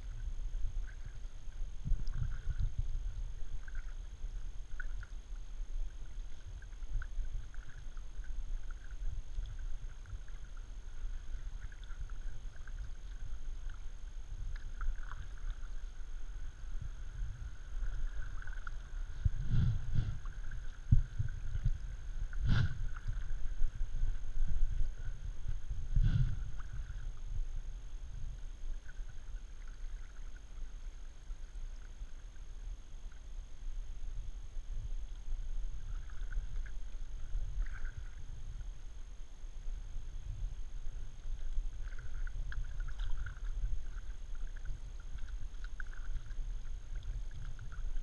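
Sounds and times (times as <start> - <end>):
low rumble on microphone: 0.0 - 48.0
paddle strokes and drips: 0.0 - 48.0.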